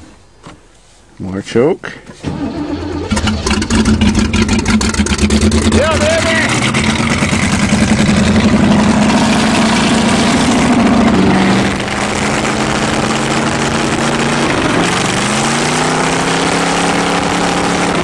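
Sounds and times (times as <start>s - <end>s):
car engine running: 3.0s - 18.0s.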